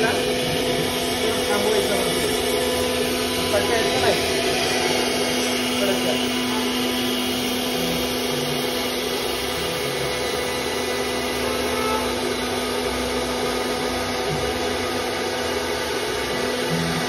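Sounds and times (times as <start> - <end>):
router bit cutting wood: 0.0 - 17.0
router spindle motor whine: 0.0 - 17.0.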